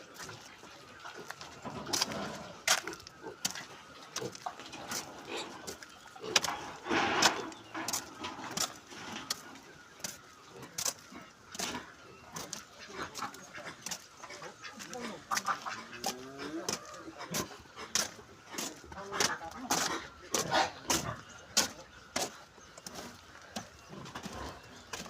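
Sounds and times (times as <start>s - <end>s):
pigs knocking and clicking: 0.1s - 25.0s.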